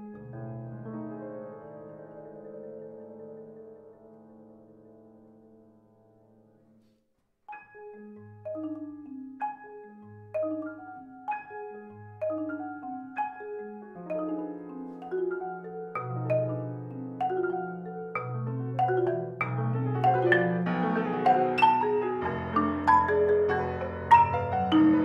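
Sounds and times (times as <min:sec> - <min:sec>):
marimba and piano pattern: 0:00.0 - 0:05.6, 0:07.5 - 0:25.0.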